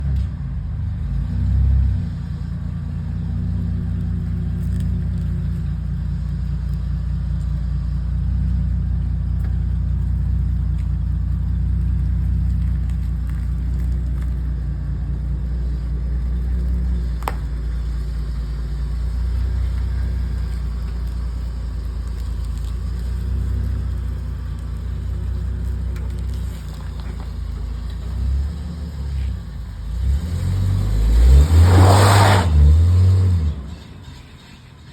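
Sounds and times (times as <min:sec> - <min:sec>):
car engine running at low revs: 0:00.0 - 0:34.9.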